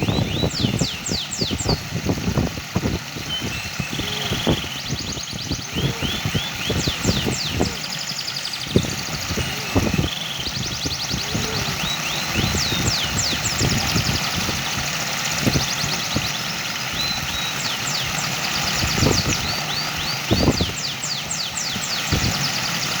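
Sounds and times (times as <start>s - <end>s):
running water: 0.0s - 23.0s
small birds chirping: 0.0s - 23.0s
wind gusts on microphone: 0.0s - 23.0s.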